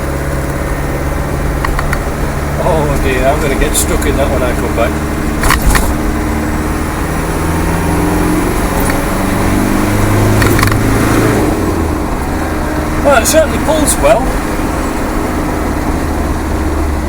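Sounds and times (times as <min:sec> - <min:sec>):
diesel engine pulling under load: 0:00.0 - 0:17.0
road noise: 0:00.0 - 0:17.0.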